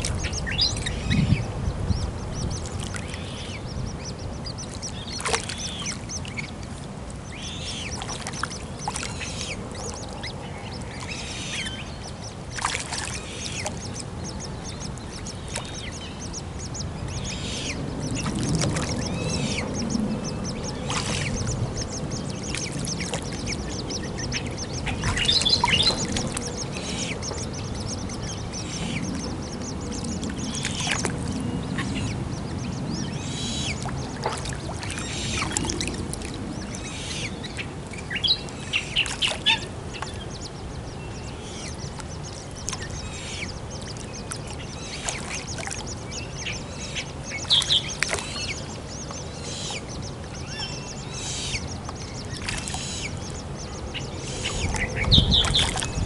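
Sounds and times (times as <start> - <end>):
low steady rumble: 0.0 - 56.0
waterbirds calling harshly: 0.0 - 56.0.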